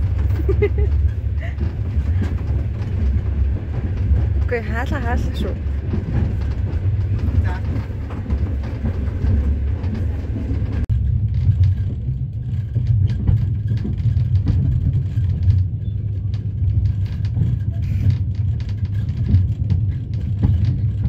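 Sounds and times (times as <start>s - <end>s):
low rumble of moving vehicle: 0.0s - 21.0s.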